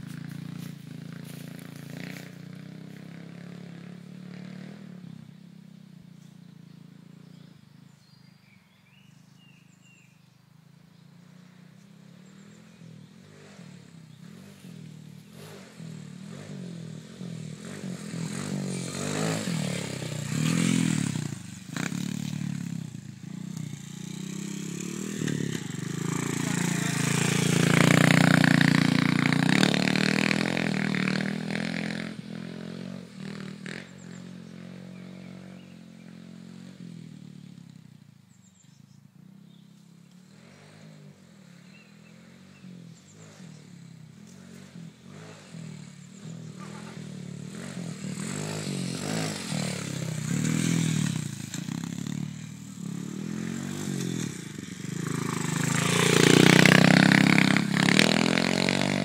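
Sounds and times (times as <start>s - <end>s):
dirt bike engine revving: 0.0s - 5.3s, 11.1s - 37.7s, 40.2s - 59.0s.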